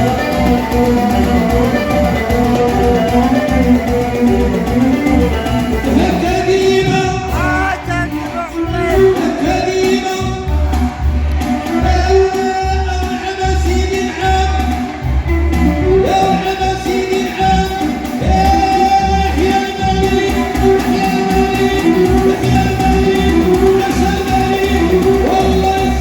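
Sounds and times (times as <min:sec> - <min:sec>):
man singing with ornamented notes: 0:00.0 - 0:14.9, 0:15.7 - 0:26.0
amplified band with bass beat: 0:00.0 - 0:26.0.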